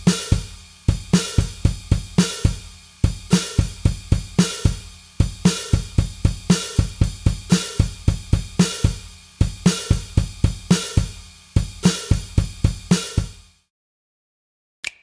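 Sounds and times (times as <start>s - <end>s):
background music with drum beat: 0.0s - 13.7s.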